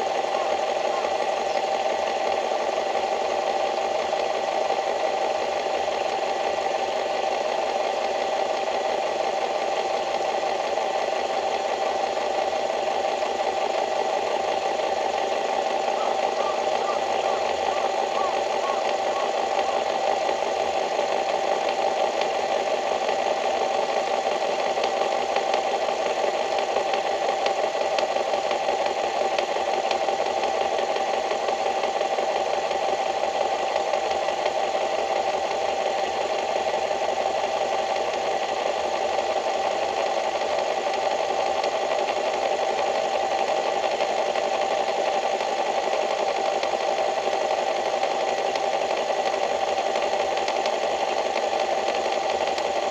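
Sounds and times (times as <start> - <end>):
small engine droning: 0.0 - 52.9.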